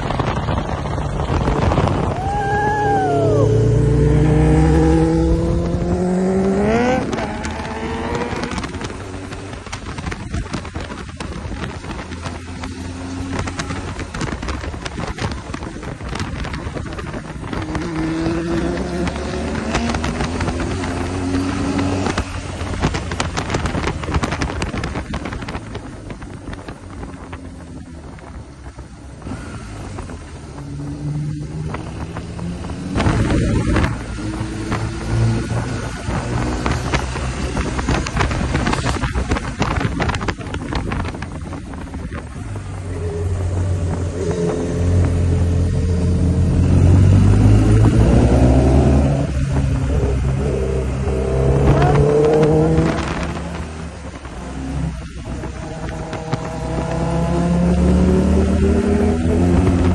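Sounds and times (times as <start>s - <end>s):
motorcycle engine accelerating: 0.0s - 59.9s
wind buffeting microphone: 0.0s - 59.9s.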